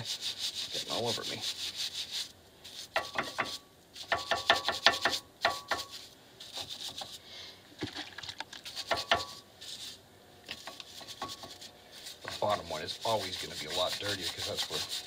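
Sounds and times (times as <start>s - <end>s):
wire brush scrubbing metal: 0.0s - 7.2s, 8.6s - 15.0s.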